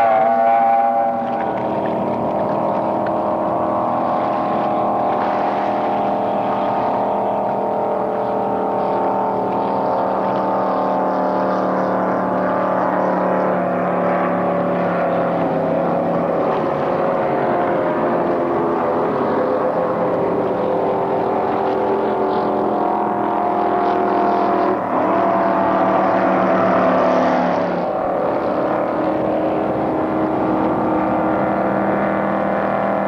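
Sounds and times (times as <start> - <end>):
powerboat engines droning: 0.0 - 33.0.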